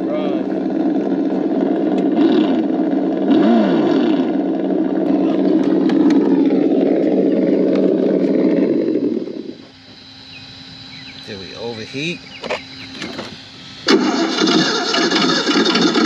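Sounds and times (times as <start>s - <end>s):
rc car motor droning: 0.0s - 16.0s.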